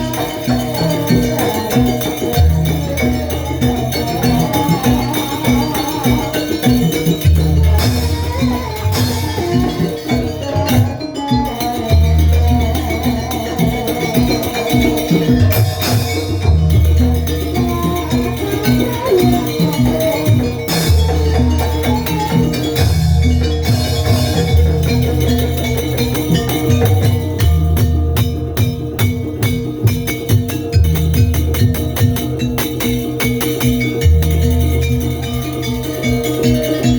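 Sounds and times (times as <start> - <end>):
drums and rattling percussion: 0.0 - 36.9.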